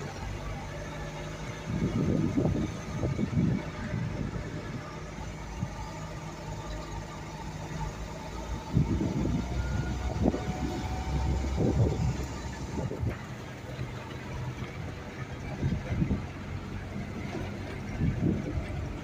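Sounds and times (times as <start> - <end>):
car engine running: 0.0 - 19.0
low rumbles from jolting ride: 0.0 - 19.0.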